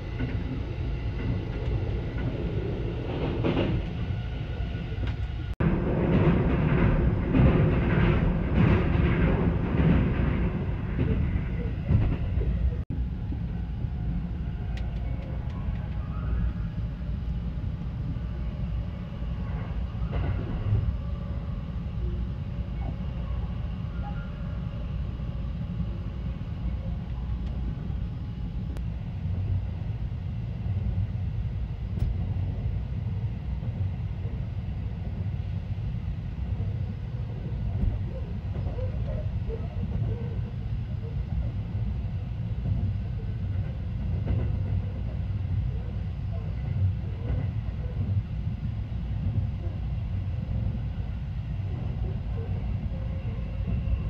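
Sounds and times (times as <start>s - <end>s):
train rumble from inside cabin: 0.0s - 54.0s.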